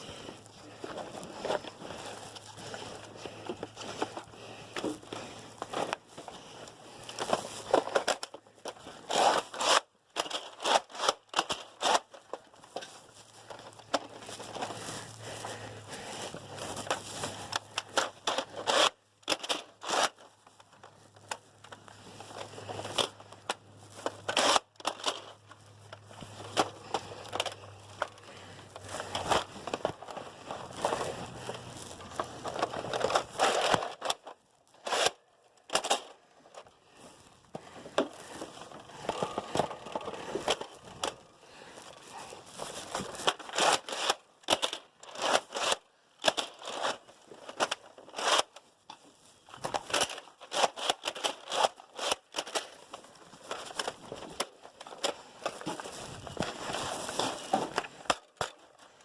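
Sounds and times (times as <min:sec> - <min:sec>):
rustling crunching and scraping: 0:00.0 - 0:59.0.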